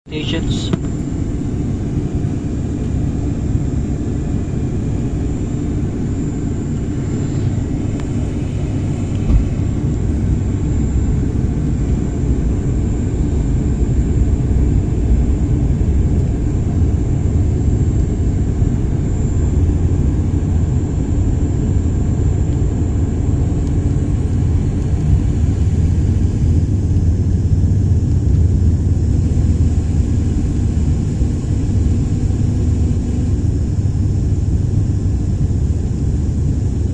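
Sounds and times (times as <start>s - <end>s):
faint high whine: 0.1s - 36.9s
propeller plane engines droning: 0.1s - 36.9s.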